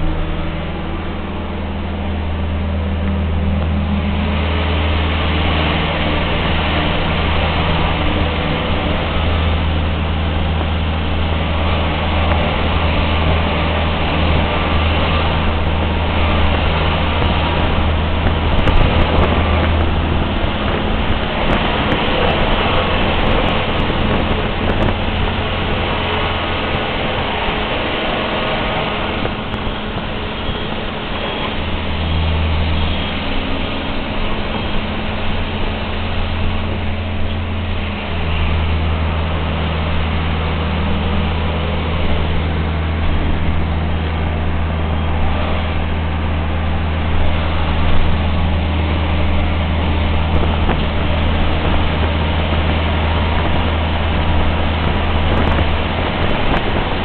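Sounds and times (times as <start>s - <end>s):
road and body noise: 0.0s - 57.0s
trolleybus motor hum: 0.0s - 57.0s.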